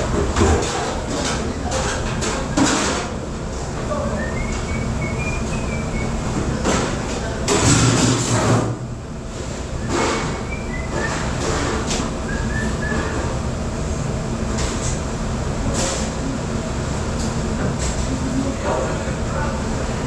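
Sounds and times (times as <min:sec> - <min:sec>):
dishwashing machine rumbling: 0:00.0 - 0:20.0.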